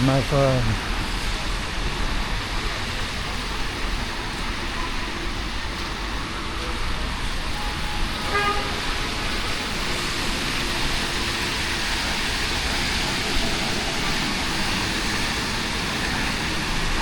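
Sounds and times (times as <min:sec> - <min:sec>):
heavy rain hissing: 0:00.0 - 0:17.0
road traffic: 0:00.0 - 0:17.0.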